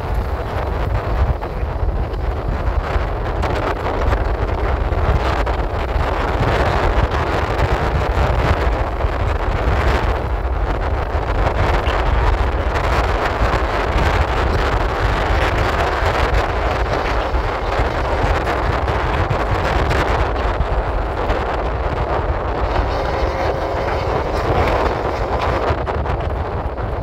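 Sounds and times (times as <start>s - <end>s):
low rumble: 0.0s - 27.0s
wind buffeting microphone: 0.0s - 27.0s.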